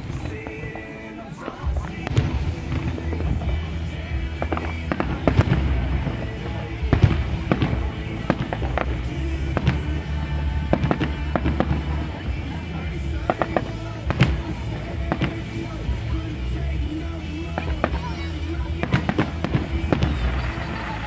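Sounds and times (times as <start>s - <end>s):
low rumble: 1.6s - 21.0s.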